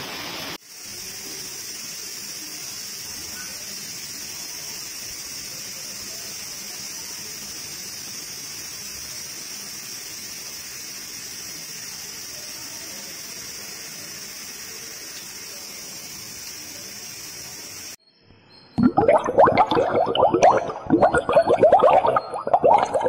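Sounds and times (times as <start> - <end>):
water hissing from a downpipe: 0.0 - 18.0, 18.8 - 23.0.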